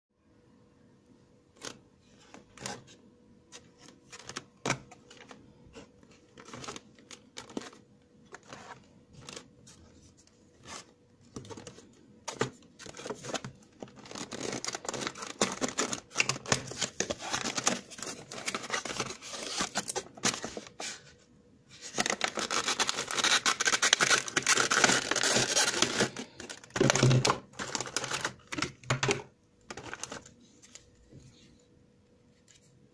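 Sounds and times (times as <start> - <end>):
packaging rustling and crinkling: 3.5 - 21.1, 21.8 - 31.3.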